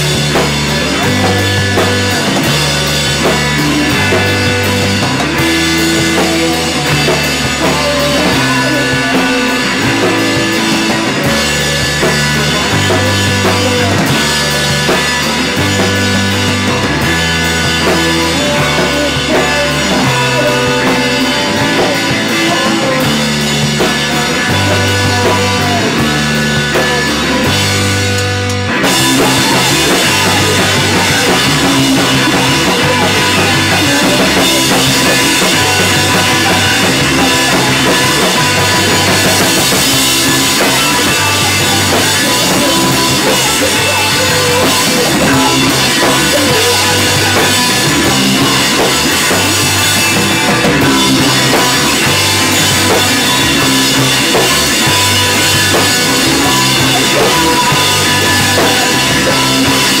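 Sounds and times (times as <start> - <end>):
bass guitar: 0.0 - 60.0
drum kit: 0.0 - 60.0
electric guitars: 0.0 - 60.0.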